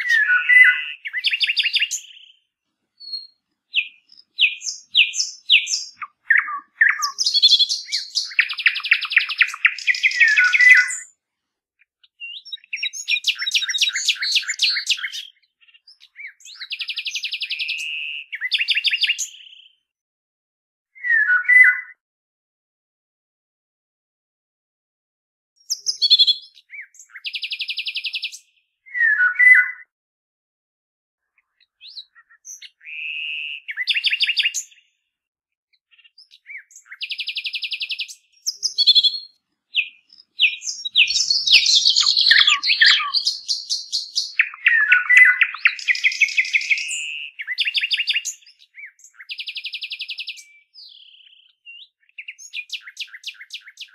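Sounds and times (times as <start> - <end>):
songbirds chirping and trilling: 0.0 - 11.2, 11.8 - 19.9, 25.6 - 29.9, 31.2 - 53.9.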